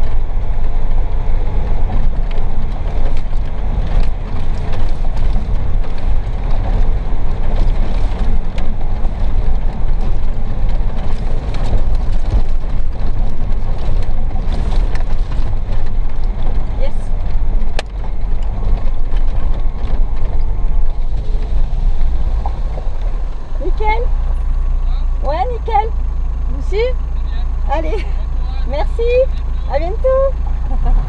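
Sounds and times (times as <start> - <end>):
car rattles and knocks: 0.0 - 26.0
car engine and tyre rumble: 0.0 - 31.0.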